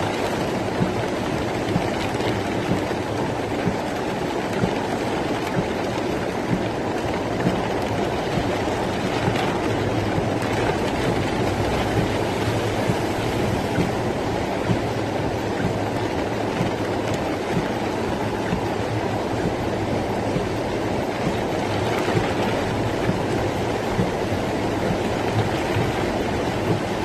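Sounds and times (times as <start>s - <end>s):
rainwater rushing: 0.0s - 27.0s
torrential rain: 0.0s - 27.0s.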